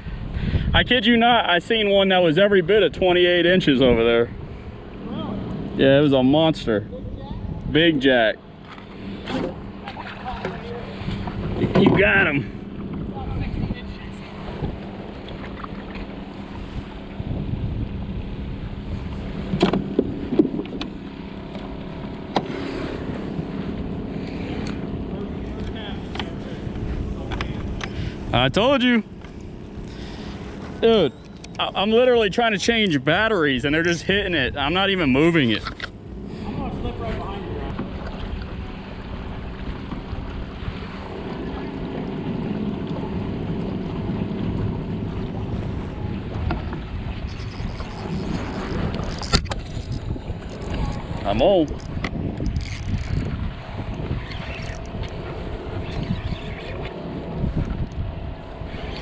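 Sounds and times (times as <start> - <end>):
low steady hum: 0.0 - 59.0
water noise around kayak: 0.0 - 59.0
wind: 0.0 - 59.0.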